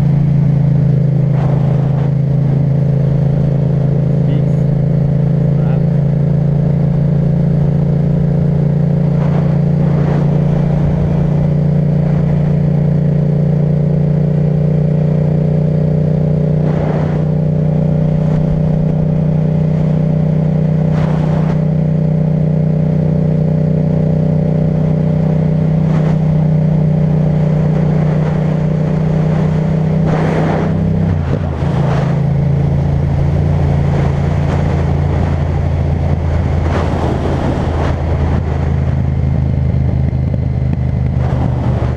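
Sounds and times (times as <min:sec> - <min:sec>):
motorcycle engine while riding: 0:00.0 - 0:41.9.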